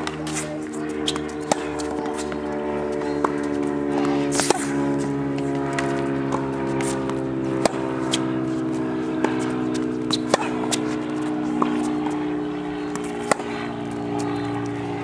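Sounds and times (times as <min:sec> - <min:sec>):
racket hitting tennis ball: 0:00.0 - 0:15.0
steady low hum: 0:00.0 - 0:15.0
tennis ball bouncing: 0:00.0 - 0:15.0.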